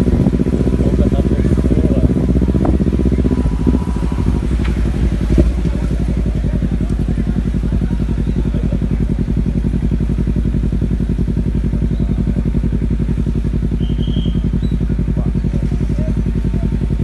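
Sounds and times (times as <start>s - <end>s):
engine running with fast throb: 0.0s - 17.0s.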